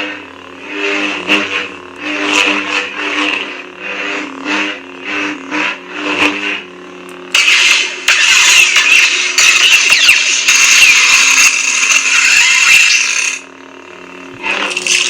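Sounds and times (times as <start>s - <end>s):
lightsaber humming: 0.0s - 13.5s, 14.2s - 15.0s.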